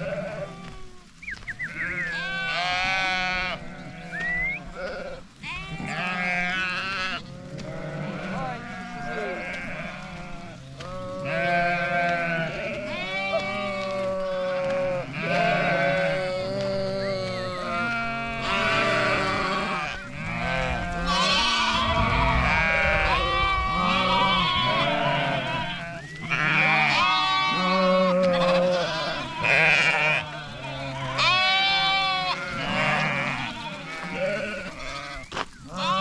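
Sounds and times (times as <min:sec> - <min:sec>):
sheep and lambs bleating: 0:00.0 - 0:36.0.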